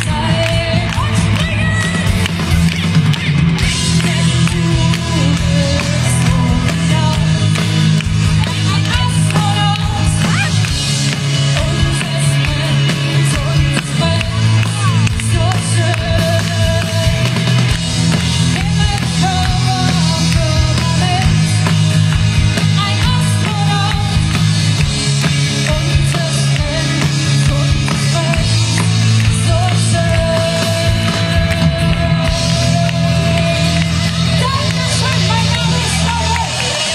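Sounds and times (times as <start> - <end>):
held bass notes: 0.0 - 36.9
live band amplified music: 0.0 - 36.9.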